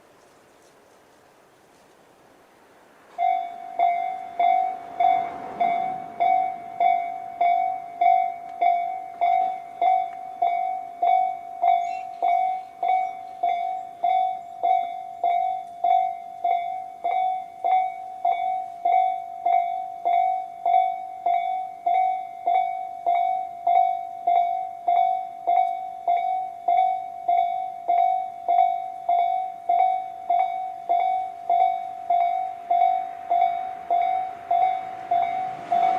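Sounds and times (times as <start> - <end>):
level crossing warning bell: 3.1 - 35.9.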